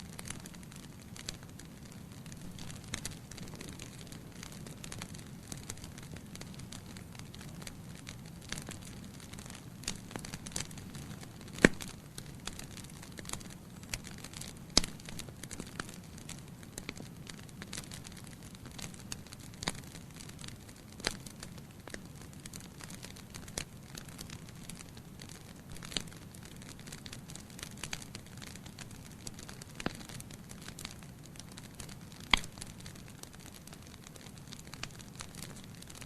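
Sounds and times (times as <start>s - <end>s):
loud pops from fire: 0.0s - 36.0s
wood fire crackling: 0.0s - 36.0s.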